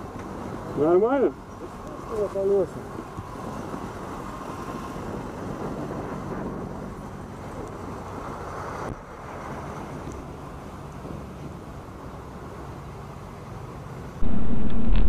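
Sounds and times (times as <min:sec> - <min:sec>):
road traffic noise: 0:00.0 - 0:14.2.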